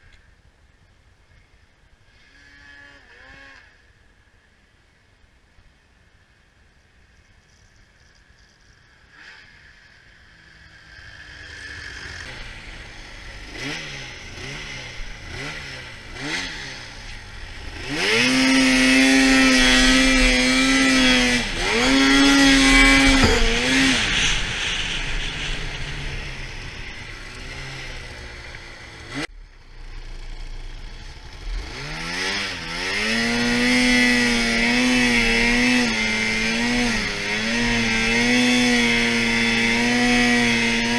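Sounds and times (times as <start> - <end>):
snowmobile engine revving: 2.1 - 3.8, 9.1 - 40.9.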